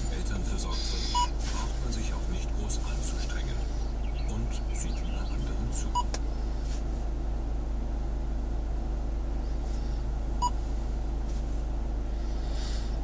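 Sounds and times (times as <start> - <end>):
car interior hum: 0.0 - 13.0.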